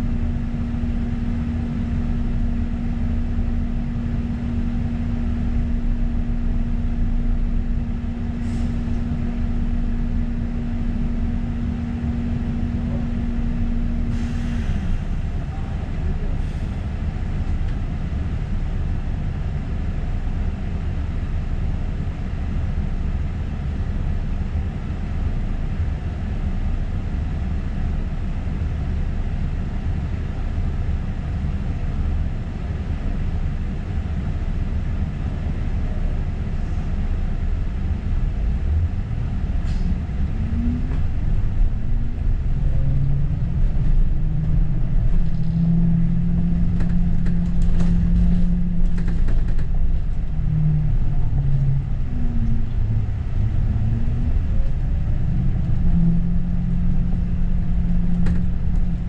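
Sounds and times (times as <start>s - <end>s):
bus drive whine: 0.0s - 59.0s
bus engine rumble: 0.0s - 59.0s.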